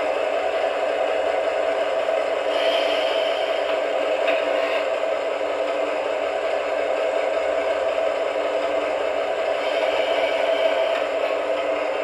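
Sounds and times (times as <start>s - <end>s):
diesel locomotive sound from small speaker: 0.0s - 12.0s.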